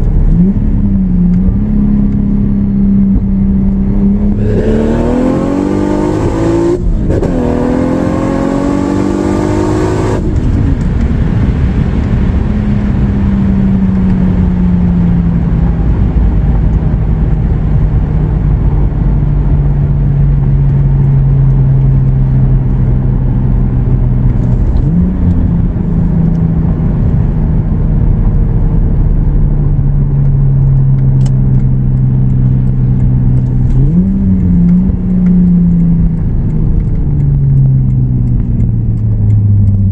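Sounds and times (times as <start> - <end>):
car engine accelerating hard: 0.0 - 39.9
car engine drone cruising: 0.0 - 39.9.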